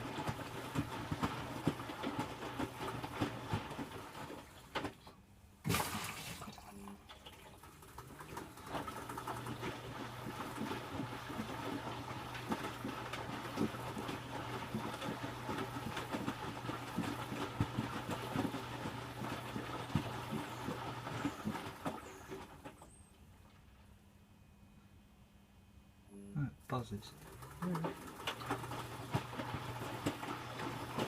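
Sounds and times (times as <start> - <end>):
water sloshing and knocking in drum: 0.0 - 5.0, 5.6 - 23.6, 27.2 - 31.0
washing machine motor hum: 0.0 - 5.1, 6.3 - 23.9, 26.3 - 31.0.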